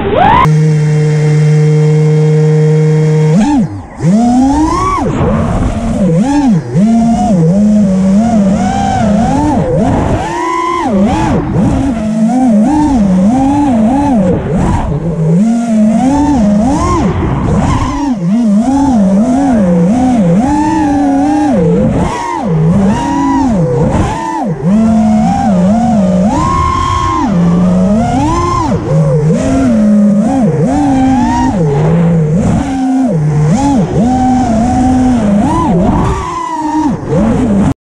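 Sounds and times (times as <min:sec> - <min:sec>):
quadcopter motors whining: 0:00.0 - 0:37.8.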